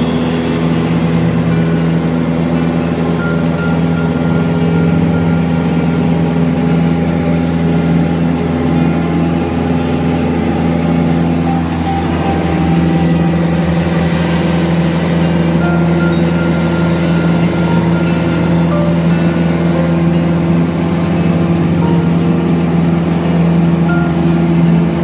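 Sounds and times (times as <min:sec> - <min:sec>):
light airplane engine and propeller: 0:00.0 - 0:25.0.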